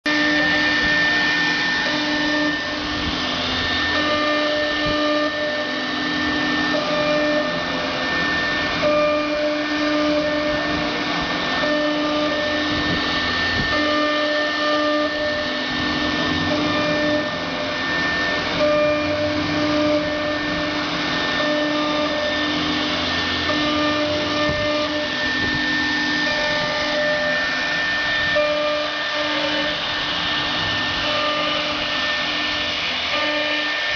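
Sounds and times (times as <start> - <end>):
machine whine: 0.0 - 33.9
machine tones cutting in and out: 0.1 - 33.9.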